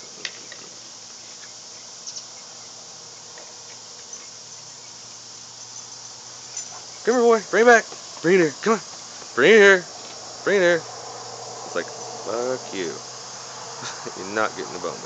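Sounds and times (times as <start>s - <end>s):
even hiss: 0.0s - 15.0s.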